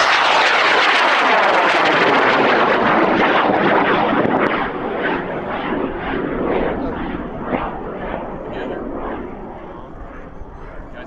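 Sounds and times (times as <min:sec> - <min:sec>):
rocket motor roaring: 0:00.0 - 0:09.4.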